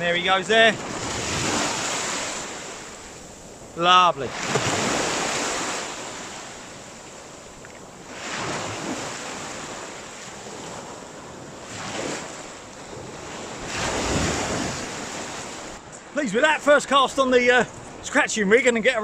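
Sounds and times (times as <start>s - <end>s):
small waves breaking on beach: 0.0s - 18.1s.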